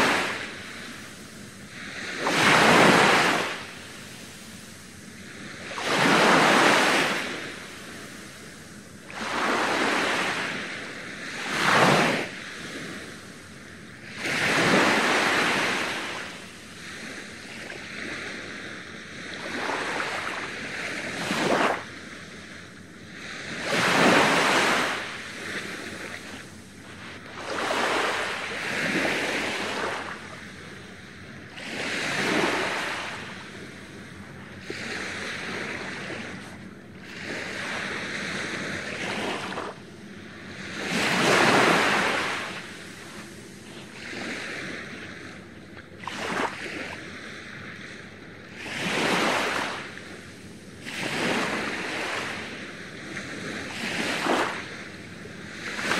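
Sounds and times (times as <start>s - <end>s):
small waves breaking on sand: 0.0s - 55.9s.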